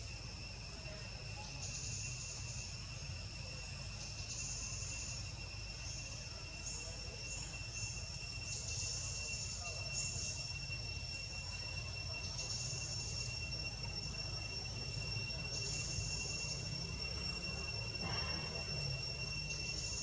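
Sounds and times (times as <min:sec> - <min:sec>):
insects droning: 0:00.0 - 0:20.0
shrill insect buzz: 0:00.0 - 0:20.0.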